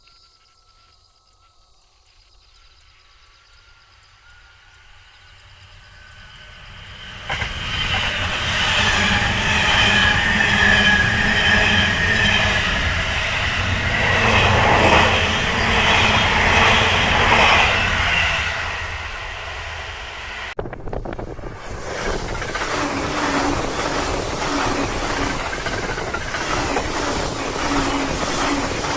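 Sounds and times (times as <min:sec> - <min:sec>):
electric train passing at speed: 0:00.3 - 0:28.9.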